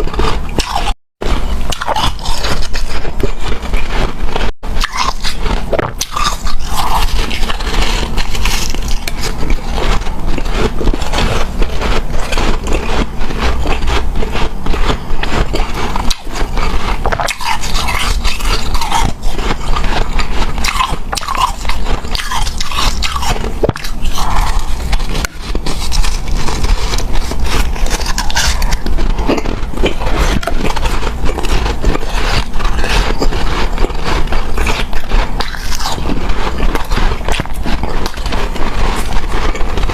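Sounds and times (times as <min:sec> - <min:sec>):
chewing crunchy ice: 0:00.0 - 0:39.9.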